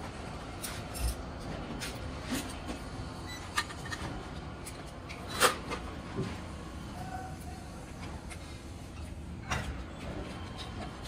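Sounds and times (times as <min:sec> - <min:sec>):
steady workshop hum: 0:00.0 - 0:11.0.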